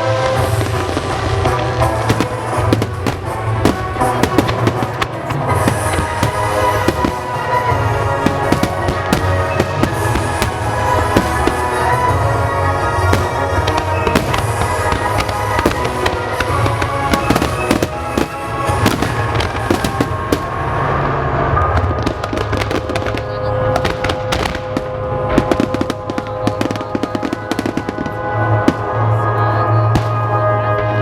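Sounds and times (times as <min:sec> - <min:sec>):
fireworks bursting and crackling: 0:00.0 - 0:31.0
loud music: 0:00.0 - 0:31.0.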